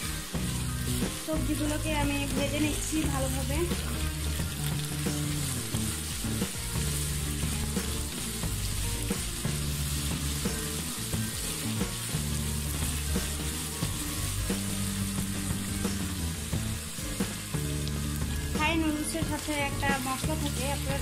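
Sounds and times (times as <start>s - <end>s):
food sizzling in a frying pan: 0.0s - 21.0s
low background music: 0.0s - 21.0s.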